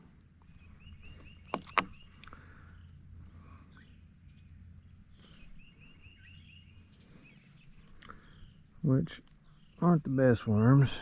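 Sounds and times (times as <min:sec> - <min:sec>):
birds chirping: 0:00.0 - 0:11.0
low background noise: 0:00.0 - 0:11.0.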